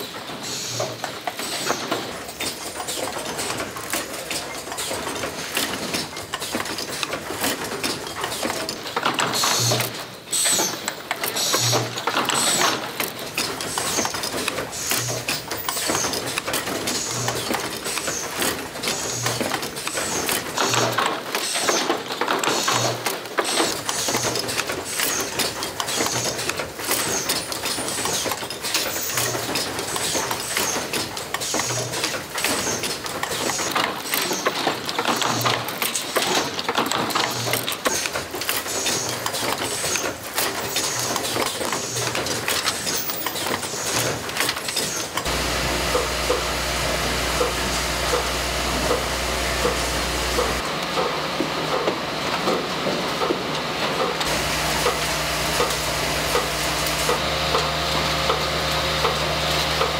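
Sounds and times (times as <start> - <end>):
machinery clattering: 0.0 - 59.9.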